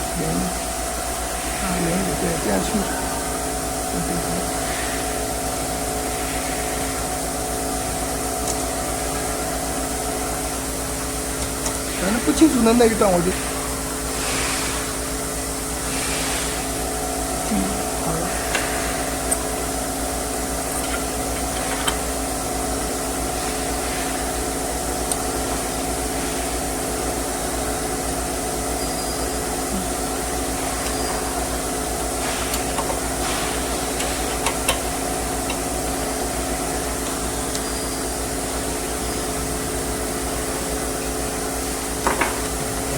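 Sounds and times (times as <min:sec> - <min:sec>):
mechanical hum: 0:00.0 - 0:42.9.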